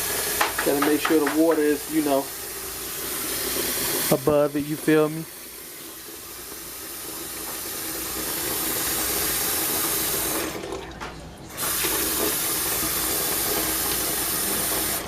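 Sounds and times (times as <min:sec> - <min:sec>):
faucet running into bowl: 0:00.0 - 0:15.0.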